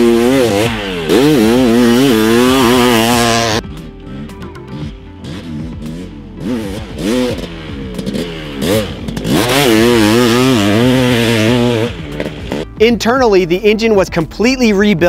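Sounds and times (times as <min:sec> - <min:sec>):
two-stroke engine revving: 0:00.0 - 0:12.8.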